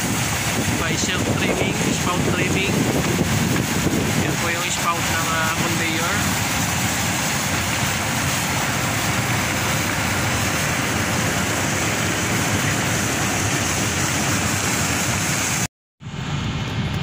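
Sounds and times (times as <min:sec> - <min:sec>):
coal pouring into hold: 0:00.0 - 0:15.7
loader machinery running: 0:00.0 - 0:17.0.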